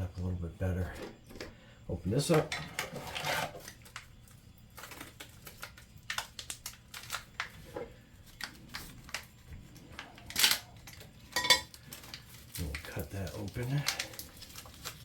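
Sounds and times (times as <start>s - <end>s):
packaging rustling: 2.2s - 15.0s.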